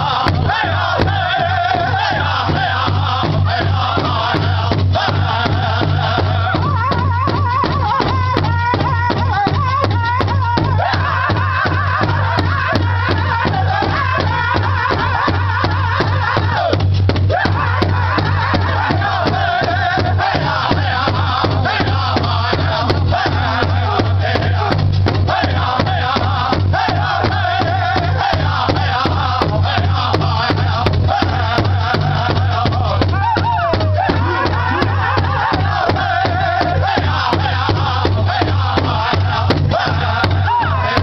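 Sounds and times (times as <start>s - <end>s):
even drumbeat: 0.0s - 41.0s
group of voices chanting: 0.0s - 41.0s.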